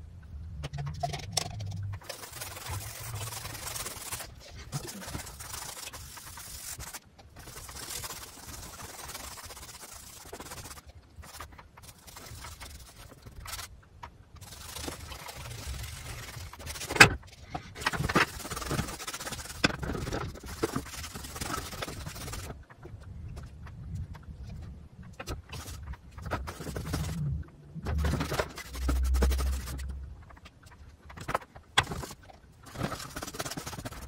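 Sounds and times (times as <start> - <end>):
paintbrush scraping on canvas: 0.9 - 13.7, 14.4 - 22.6, 25.2 - 34.0.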